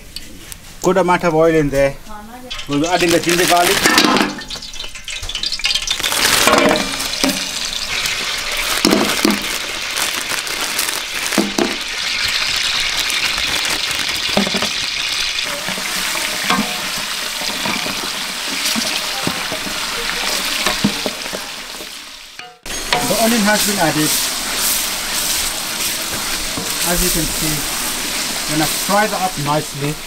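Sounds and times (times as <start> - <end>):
paste sizzling in hot oil: 2.4 - 30.0.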